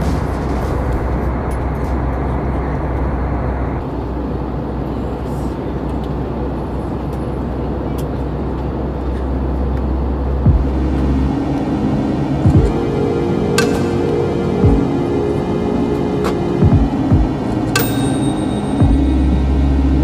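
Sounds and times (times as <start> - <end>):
jet airliner cabin roar: 0.0 - 20.0.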